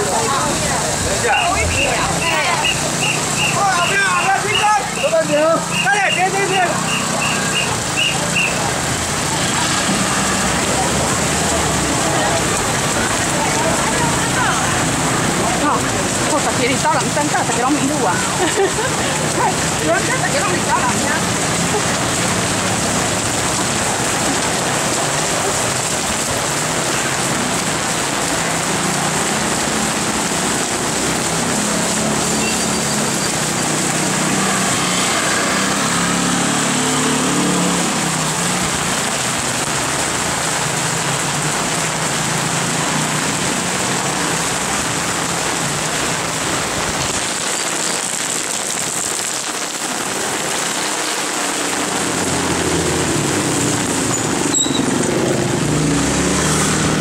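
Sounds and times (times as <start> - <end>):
heavy rain on a wet street: 0.0 - 57.0.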